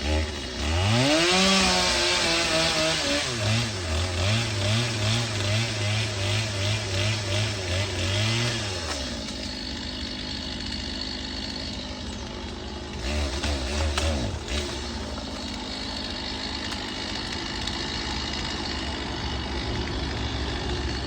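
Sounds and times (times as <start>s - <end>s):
chainsaw engine running: 0.0s - 21.0s.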